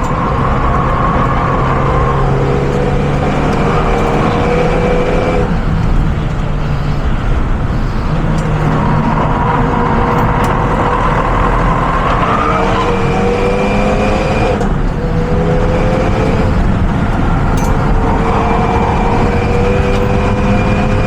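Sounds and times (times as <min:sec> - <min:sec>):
car engine pulling under load: 0:00.0 - 0:21.0
road and wind noise: 0:00.0 - 0:21.0.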